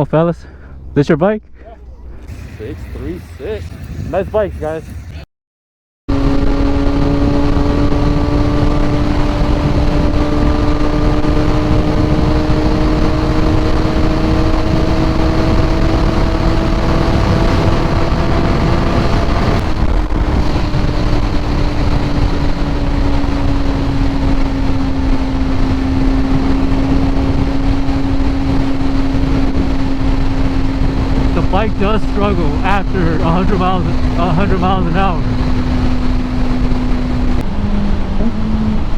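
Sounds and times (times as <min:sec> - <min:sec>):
heavy wind noise: 0:00.0 - 0:05.2, 0:06.1 - 0:38.9
motorcycle engine at high revs: 0:06.1 - 0:38.9.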